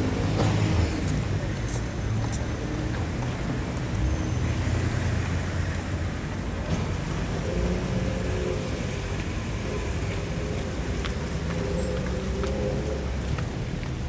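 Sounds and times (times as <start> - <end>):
road traffic passing: 0.0 - 14.0
street noise: 0.0 - 14.0
vehicle engine rumble: 0.0 - 14.0.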